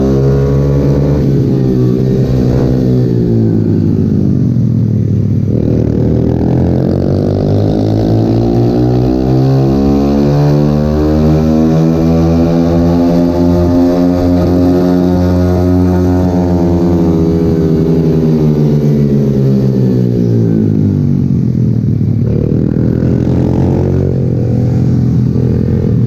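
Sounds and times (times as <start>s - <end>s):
pit bike engine revving: 0.0s - 4.6s, 5.4s - 26.0s.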